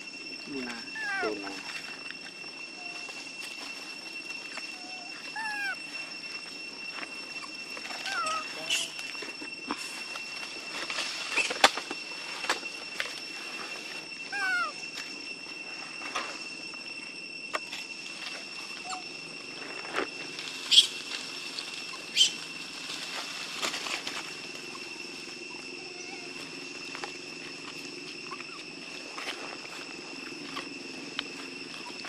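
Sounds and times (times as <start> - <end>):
squeaky gliding monkey call: 0.0 - 10.0, 11.0 - 11.7, 13.2 - 19.6, 20.3 - 32.0
high-pitched drone: 0.0 - 32.0.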